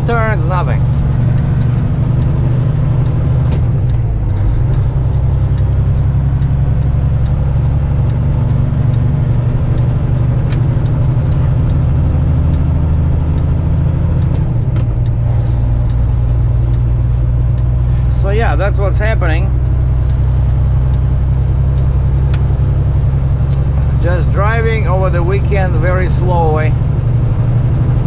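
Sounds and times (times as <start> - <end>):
diesel truck engine drone: 0.0 - 28.0
road noise: 0.0 - 28.0
faint evenly spaced ticking: 0.1 - 23.0.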